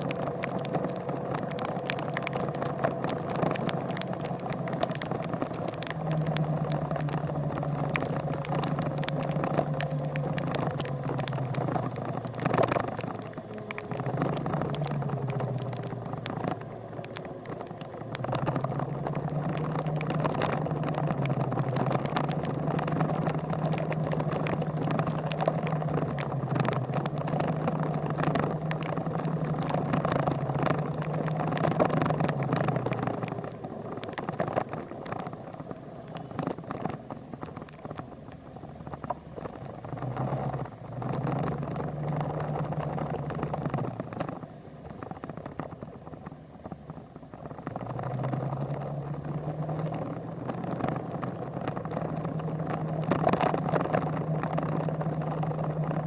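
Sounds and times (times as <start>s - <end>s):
small clicks: 0.0s - 56.0s
vehicle engine humming: 0.0s - 56.0s.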